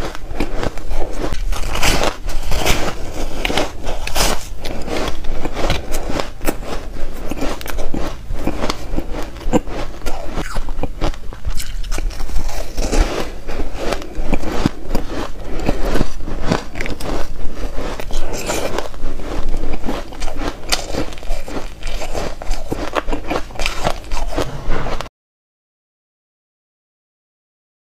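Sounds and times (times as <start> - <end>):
ice being chewed: 0.0 - 25.1.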